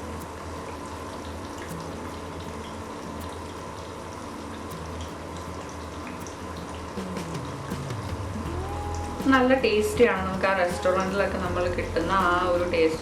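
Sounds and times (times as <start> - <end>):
oil popping and crackling: 0.0 - 11.8.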